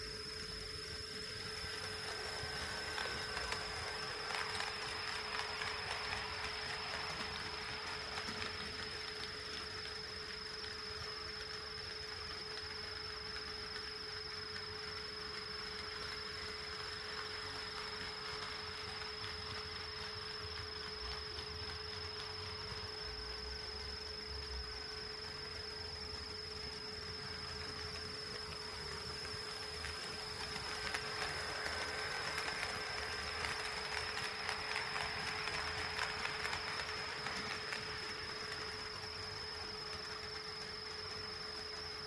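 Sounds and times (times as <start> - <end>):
model train whirring: 0.0 - 42.0.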